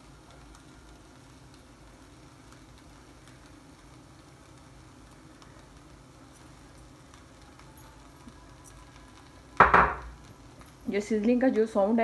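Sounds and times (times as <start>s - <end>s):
sauce sizzling in hot pan: 0.0s - 12.0s.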